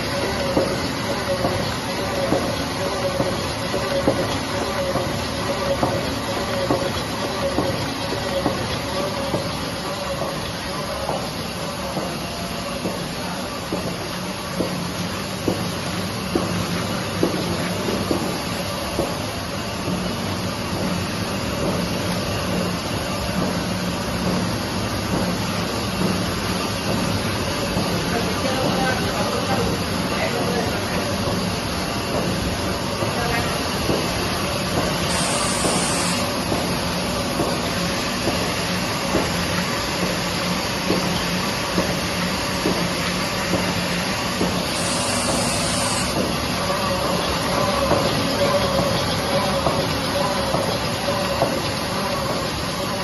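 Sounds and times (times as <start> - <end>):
printing press running: 0.0 - 53.0.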